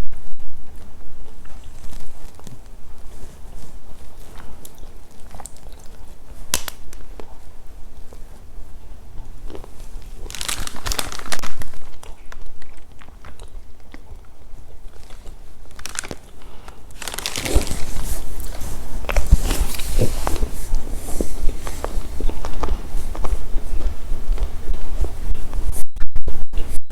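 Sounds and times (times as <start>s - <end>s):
crunchy chocolate snack eating: 0.7s - 25.2s.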